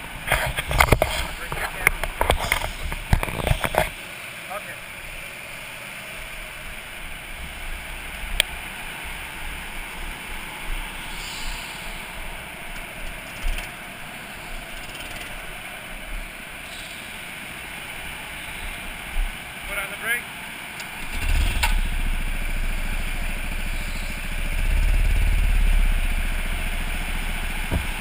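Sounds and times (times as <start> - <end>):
go-kart engine rumbling: 0.0 - 28.0.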